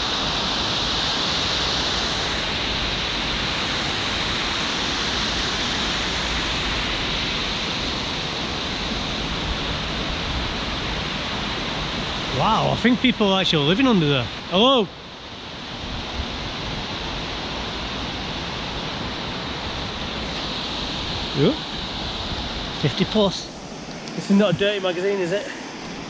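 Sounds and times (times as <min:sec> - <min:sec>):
water rushing over weir: 0:00.0 - 0:26.0.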